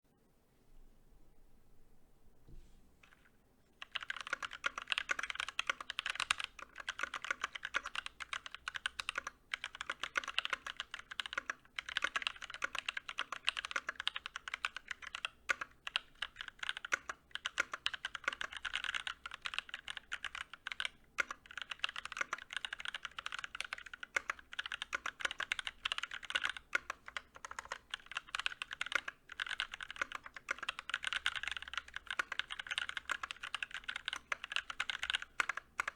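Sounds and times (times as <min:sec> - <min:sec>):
fast typing on mechanical keyboard: 0:03.8 - 0:35.9.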